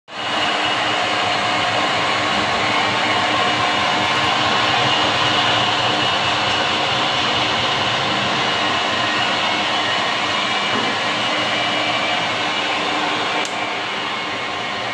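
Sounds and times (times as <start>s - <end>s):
metal lathe running: 0.2s - 14.9s.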